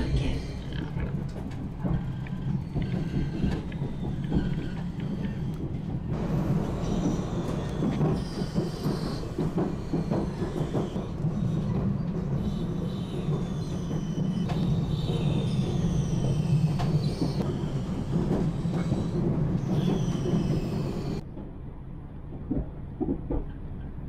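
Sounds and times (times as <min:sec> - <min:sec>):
faint high wheel squeals: 0:00.0 - 0:21.2
train rumbling on rails: 0:00.0 - 0:24.0.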